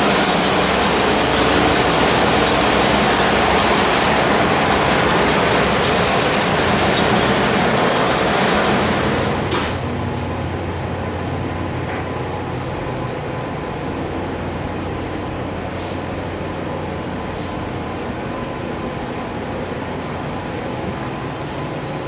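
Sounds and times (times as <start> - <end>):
engine room machinery din: 0.0 - 22.0.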